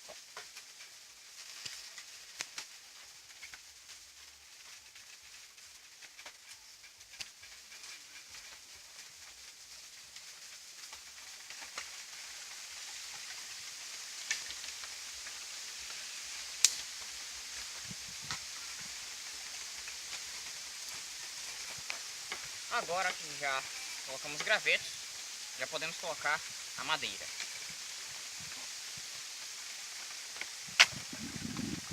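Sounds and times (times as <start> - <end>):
campfire hissing: 0.0 - 31.9
fire crackles and pops: 0.0 - 31.9.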